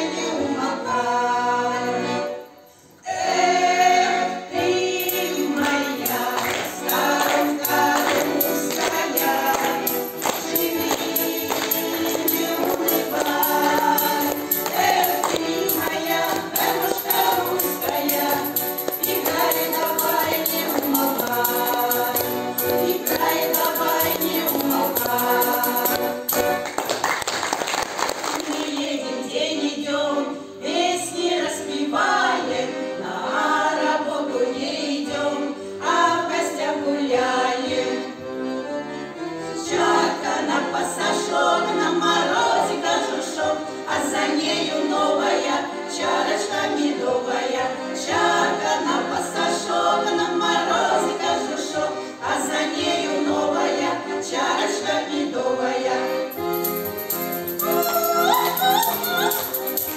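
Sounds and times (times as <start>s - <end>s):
choir singing: 0.0s - 26.6s, 28.5s - 59.9s
instrumental accompaniment: 0.0s - 59.9s.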